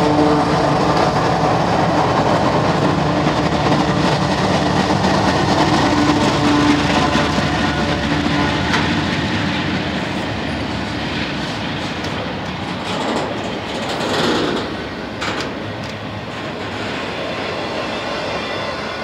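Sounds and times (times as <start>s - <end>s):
clickety-clack of rails: 0.0s - 19.0s
freight train wheels rumbling: 0.0s - 19.0s.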